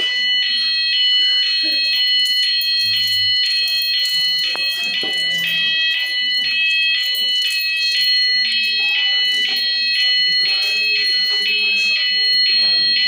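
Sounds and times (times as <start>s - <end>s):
two-tone fire alarm sounder: 0.0s - 13.0s.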